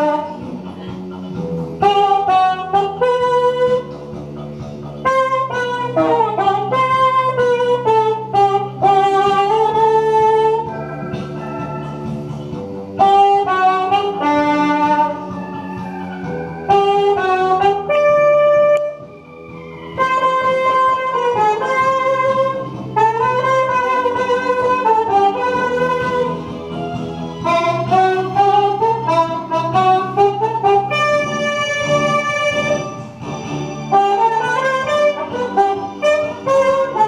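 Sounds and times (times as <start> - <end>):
bassoon melody: 0.0 - 37.0
chordal accompaniment: 0.0 - 37.0.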